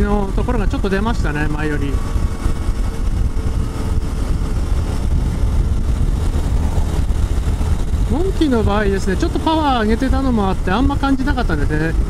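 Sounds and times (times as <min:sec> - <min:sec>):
motorcycle engine pulling uphill: 0:00.0 - 0:12.0
wind and road noise: 0:00.0 - 0:12.0.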